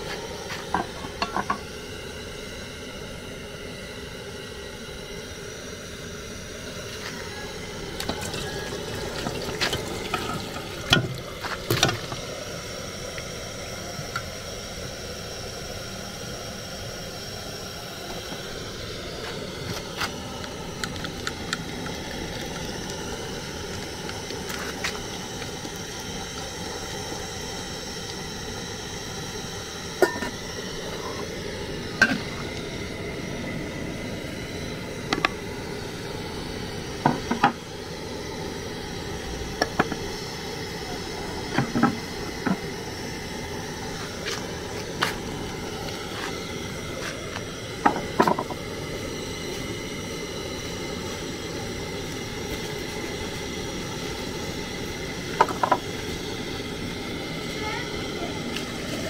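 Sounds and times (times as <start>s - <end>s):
soup simmering hiss: 0.0s - 59.0s.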